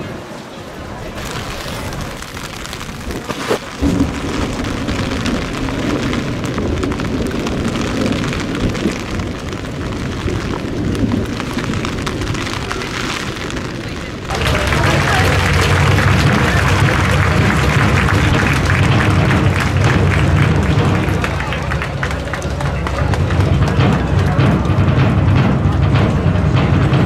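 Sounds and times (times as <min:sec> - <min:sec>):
heavy rain: 0:00.0 - 0:27.0
thunder crack and rumble: 0:01.1 - 0:27.0.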